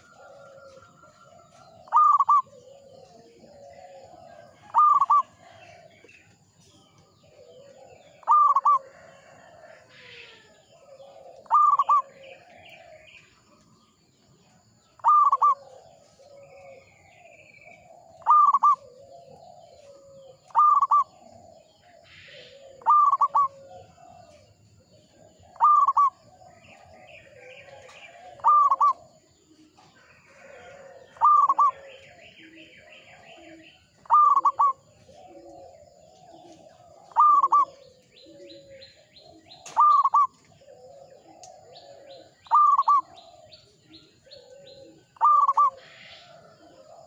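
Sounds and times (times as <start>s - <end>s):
dove cooing: 0.0s - 13.8s, 14.6s - 47.0s.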